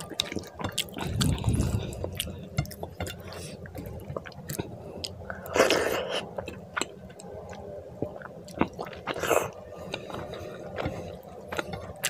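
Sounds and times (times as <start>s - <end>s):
wet chewing sounds: 0.0s - 12.0s.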